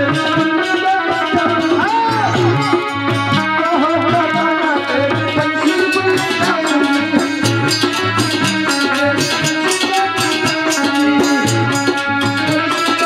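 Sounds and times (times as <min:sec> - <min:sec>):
hand drum rhythm: 0:00.0 - 0:13.0
harmonium notes: 0:00.0 - 0:13.0.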